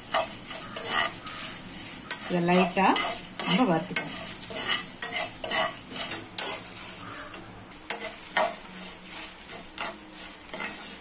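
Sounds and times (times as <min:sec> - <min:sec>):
spoon stirring and scraping seeds: 0:00.0 - 0:11.0.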